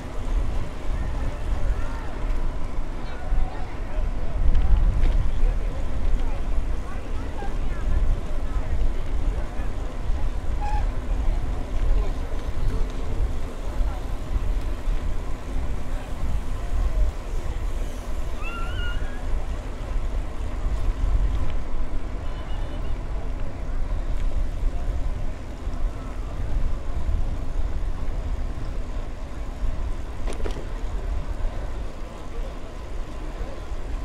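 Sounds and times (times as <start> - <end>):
bicycle tyres rolling on pavement: 0.0 - 34.0
wind rushing over microphone: 0.0 - 34.0.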